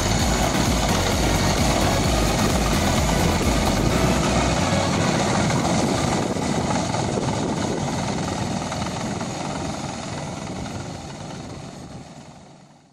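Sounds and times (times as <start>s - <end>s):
rotary tiller engine running: 0.0s - 12.7s.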